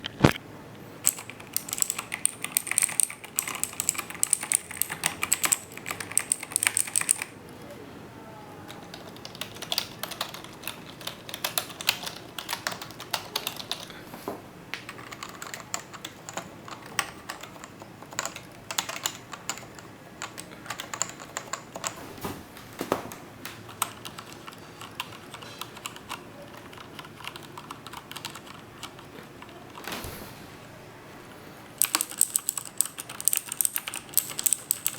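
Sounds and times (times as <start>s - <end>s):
typing on computer keyboards: 1.0s - 7.4s, 8.7s - 13.9s, 14.7s - 22.0s, 23.4s - 29.8s, 31.8s - 34.9s.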